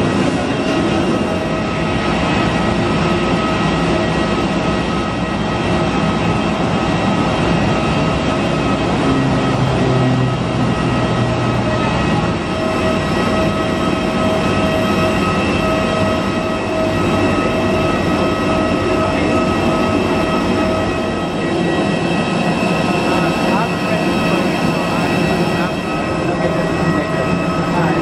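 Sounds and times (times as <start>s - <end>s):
mechanical drone with whine: 0.0s - 28.0s.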